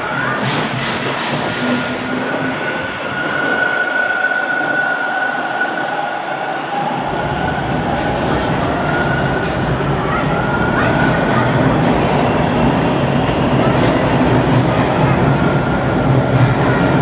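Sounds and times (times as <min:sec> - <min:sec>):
subway train rumble with whine: 0:00.0 - 0:17.0.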